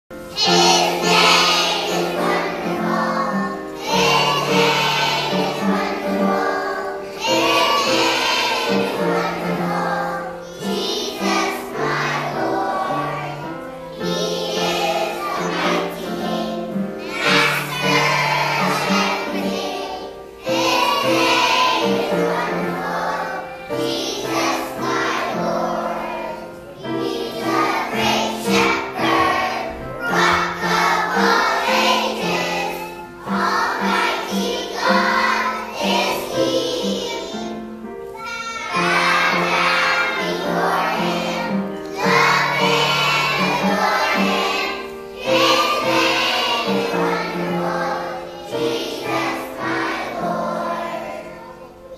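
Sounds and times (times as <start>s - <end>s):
musical accompaniment: 0.1s - 51.9s
children singing in unison: 0.2s - 51.9s.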